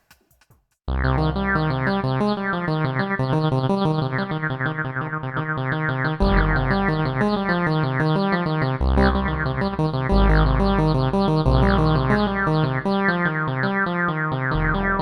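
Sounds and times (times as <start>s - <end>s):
deep synth bass notes: 0.9s - 13.6s, 14.3s - 15.0s.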